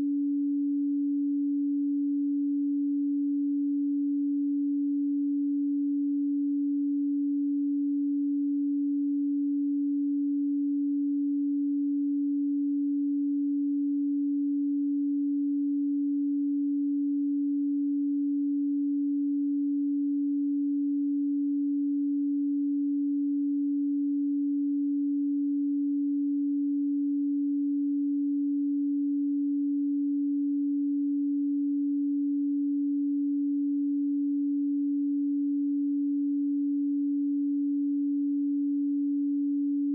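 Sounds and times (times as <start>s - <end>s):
steady sine tone: 0.0s - 39.9s.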